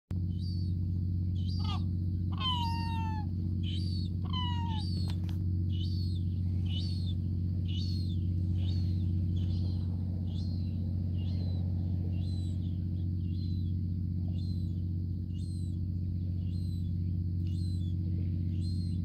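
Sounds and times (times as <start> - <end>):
low hum: 0.1 - 19.0
gulls calling: 0.2 - 19.0
young gull begging calls: 0.3 - 19.0.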